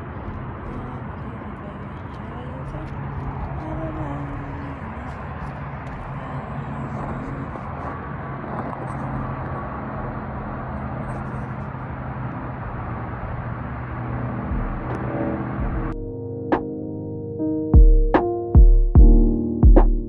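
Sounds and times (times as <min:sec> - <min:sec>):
rushing background noise: 0:00.0 - 0:16.7
steady low hum: 0:00.0 - 0:16.8.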